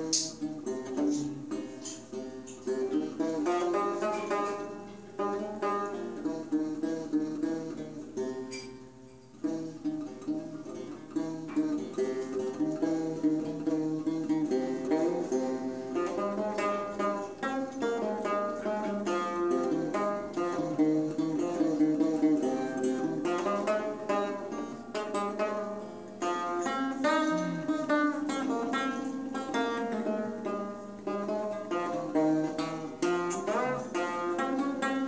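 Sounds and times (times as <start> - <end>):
plucked lute notes: 0.0 - 35.0.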